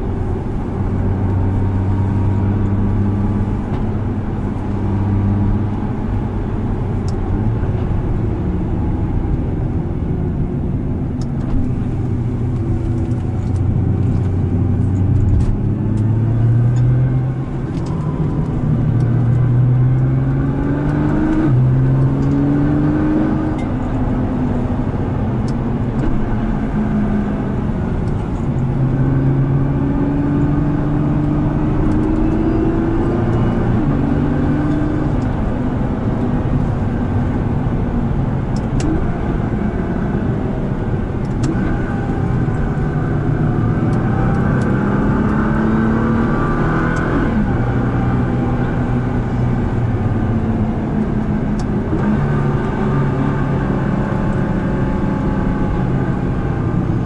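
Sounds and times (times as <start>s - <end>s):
car engine accelerating: 0.0s - 57.0s
road and tyre noise: 0.0s - 57.0s.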